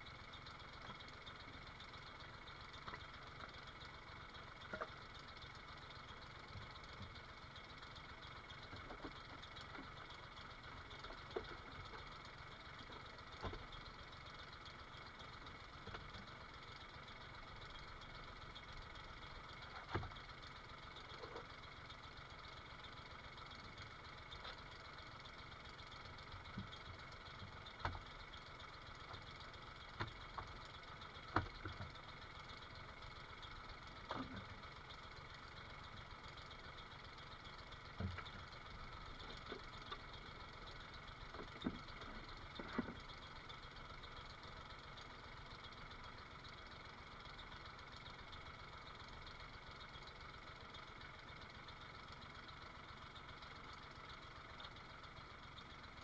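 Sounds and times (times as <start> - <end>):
faint engine idling: 0.0 - 56.0.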